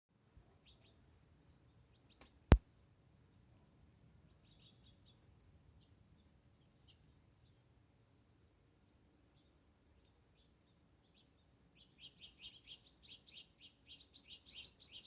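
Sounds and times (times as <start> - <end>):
small birds chirping: 0.3 - 2.6, 3.2 - 15.0.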